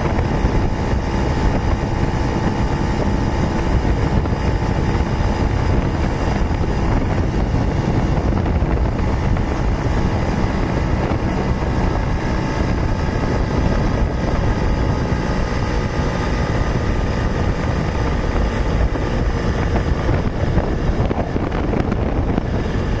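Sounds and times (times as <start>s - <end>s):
motorcycle running: 0.0s - 23.0s
wind on microphone: 0.0s - 23.0s.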